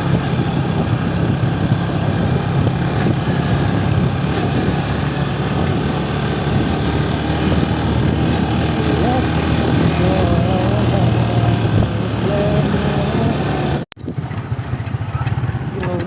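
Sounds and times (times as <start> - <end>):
road and wind noise: 0.0 - 16.0
vehicle engine running: 0.0 - 16.0.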